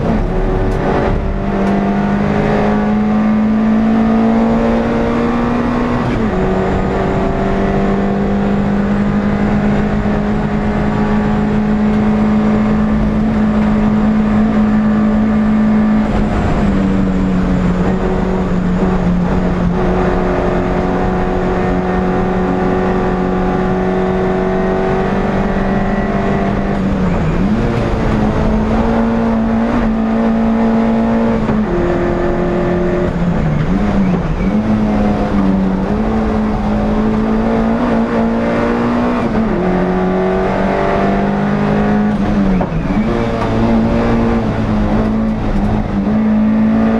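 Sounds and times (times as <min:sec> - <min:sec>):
race car engine at high revs: 0:00.0 - 0:46.9.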